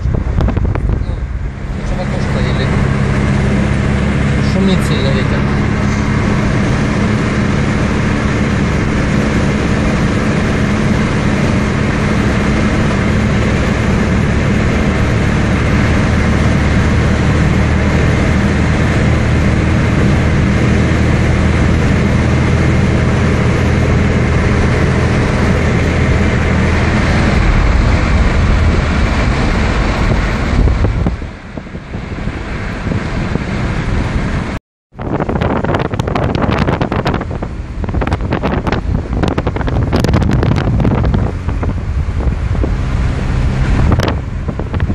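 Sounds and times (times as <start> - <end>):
low engine hum: 0.0 - 44.9
tyre and road noise: 0.0 - 44.9.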